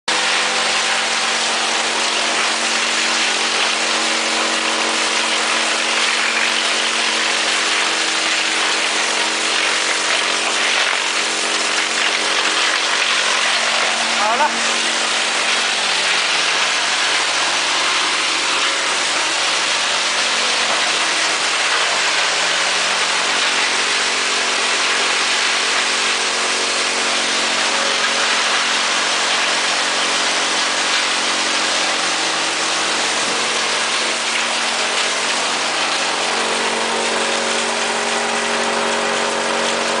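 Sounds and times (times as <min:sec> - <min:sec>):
wood chipper motor hum: 0:00.1 - 0:40.0.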